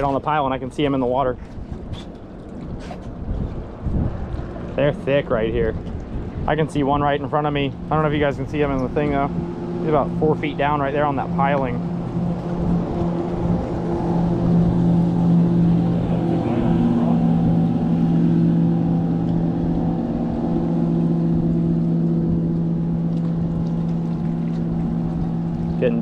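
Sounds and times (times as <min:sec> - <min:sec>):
boat motor humming: 0:00.0 - 0:26.0.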